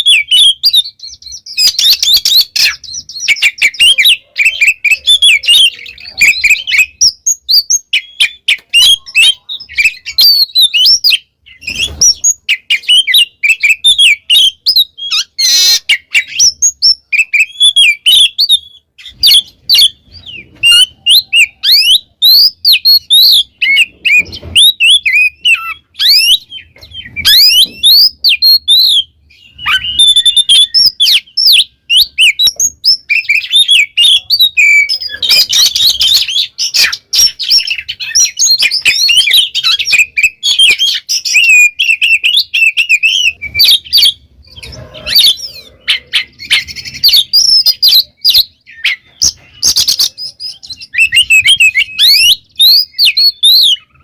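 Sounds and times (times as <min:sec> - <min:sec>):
bird singing whistled phrases: 0:00.0 - 0:54.0.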